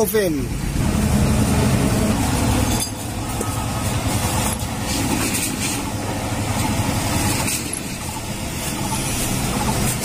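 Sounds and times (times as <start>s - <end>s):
motor vehicles rumbling: 0.0s - 10.0s.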